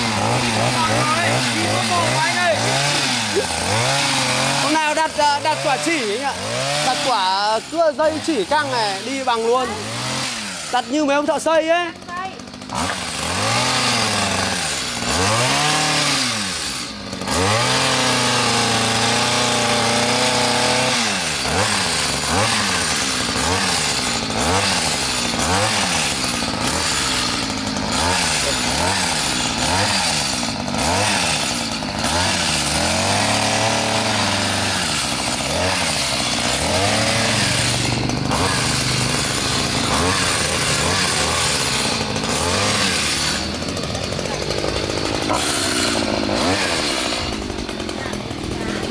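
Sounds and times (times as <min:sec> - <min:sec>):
hedge trimmer engine revving: 0:00.0 - 0:48.9.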